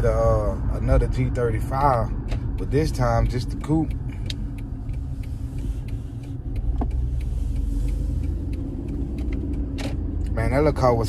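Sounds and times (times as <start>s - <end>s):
road and engine rumble inside car: 0.0s - 11.0s.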